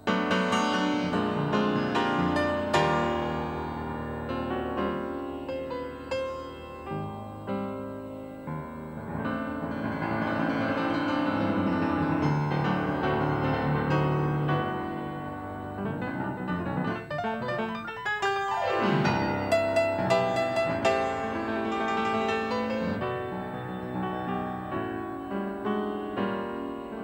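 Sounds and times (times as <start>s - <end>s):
solo jazz piano: 0.0s - 27.0s.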